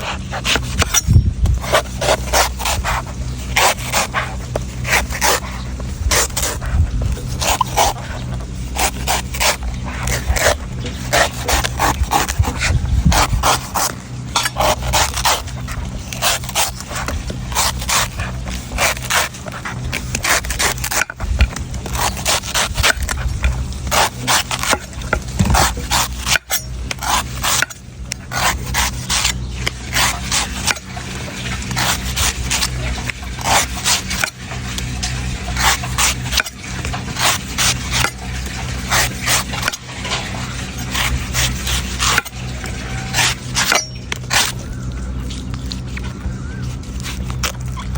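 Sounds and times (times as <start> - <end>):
knife scraping coconut husk: 0.0 - 47.9
steady low hum: 0.0 - 47.9.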